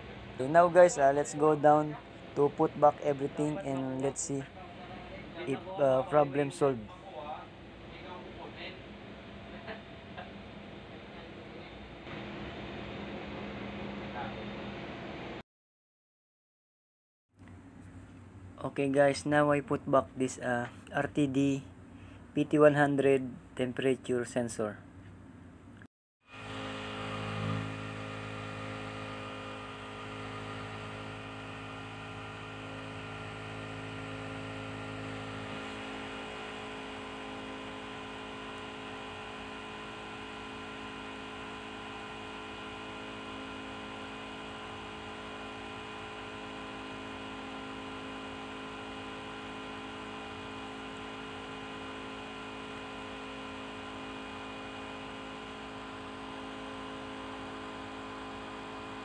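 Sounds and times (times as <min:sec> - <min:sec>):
engine room machinery hum: 0:00.0 - 0:15.4, 0:17.4 - 0:59.0.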